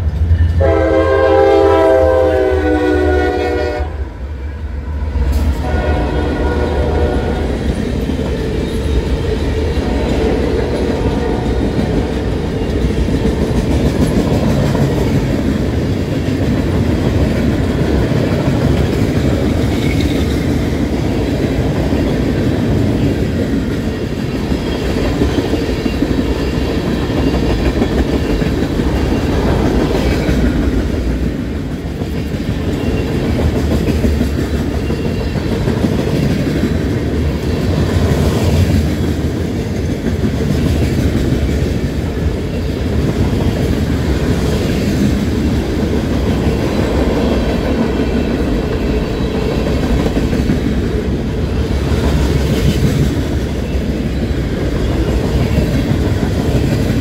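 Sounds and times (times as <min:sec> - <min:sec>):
train cars rumbling: 0:00.0 - 0:57.0.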